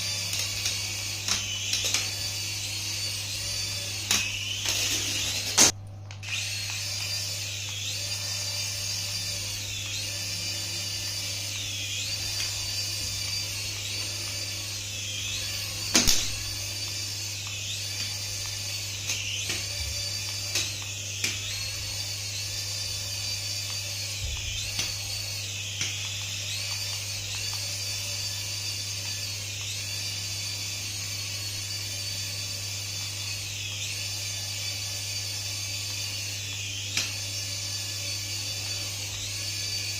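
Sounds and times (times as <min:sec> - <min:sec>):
toy electric whine: 0:00.0 - 0:39.9.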